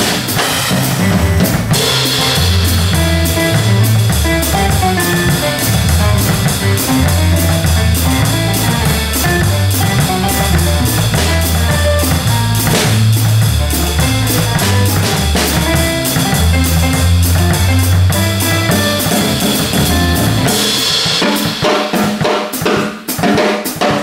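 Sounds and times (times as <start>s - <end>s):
band track with bass and guitar: 0.0s - 22.2s
drum kit playing: 0.0s - 24.0s.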